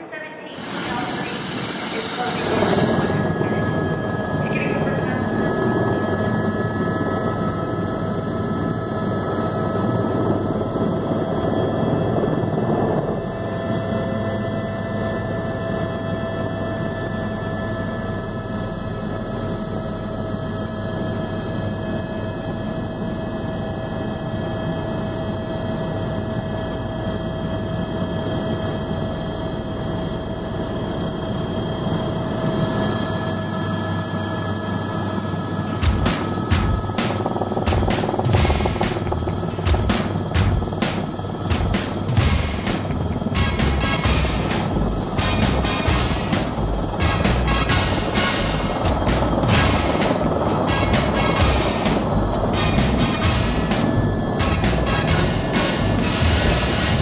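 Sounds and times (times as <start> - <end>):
helicopter engine and rotor: 0.1 - 57.0.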